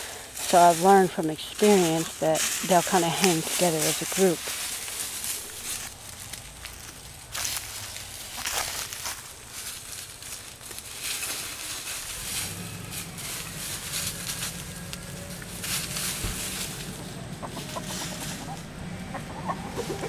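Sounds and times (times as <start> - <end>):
chickens clucking: 0.0 - 20.0
footsteps crunching through dry leaves: 0.0 - 20.0.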